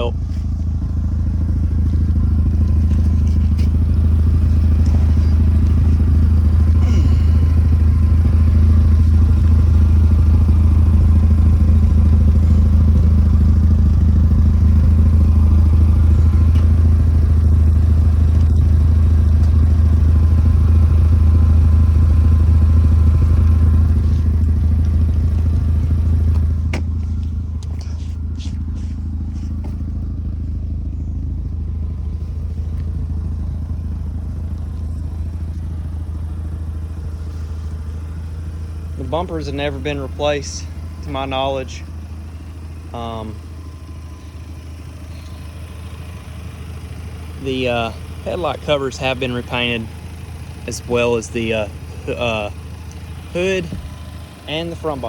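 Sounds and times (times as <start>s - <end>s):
rotary engine idling: 0.0s - 55.0s.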